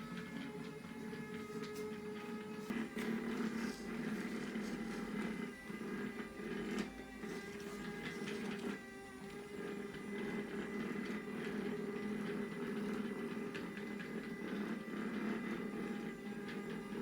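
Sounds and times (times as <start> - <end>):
robot vacuum motor whirring: 0.0 - 17.0.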